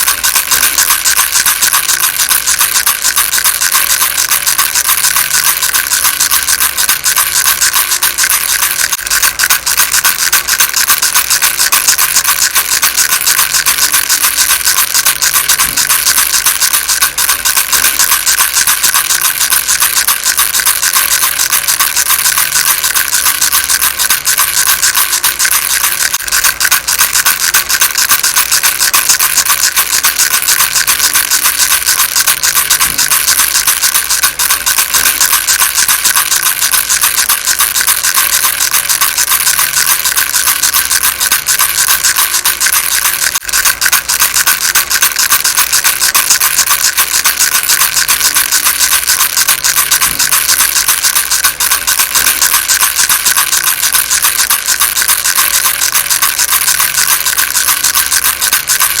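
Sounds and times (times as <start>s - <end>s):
baby rattle shaken: 0.0s - 59.0s.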